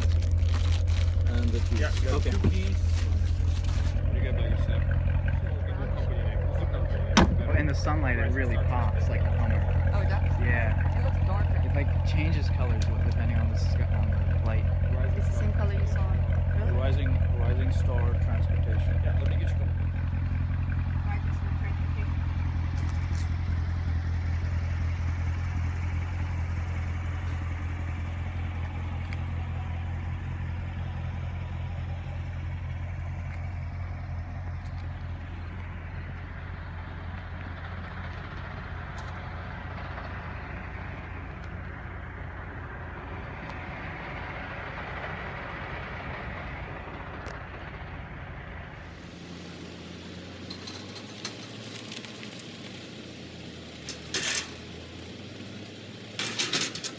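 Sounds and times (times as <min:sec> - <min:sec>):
vehicle engine idling: 0:00.0 - 0:56.9.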